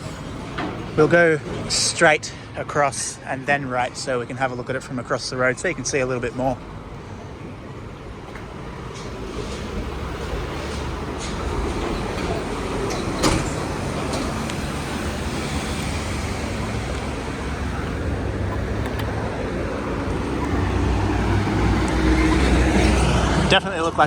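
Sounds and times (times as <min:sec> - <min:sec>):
rumble of passing vehicles: 0:00.0 - 0:24.0
vehicle engine: 0:00.0 - 0:24.0.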